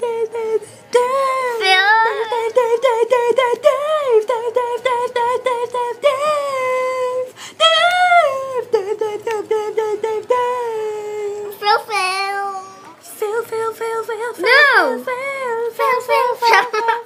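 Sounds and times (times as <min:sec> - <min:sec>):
girl singing in high voice: 0:00.0 - 0:17.0.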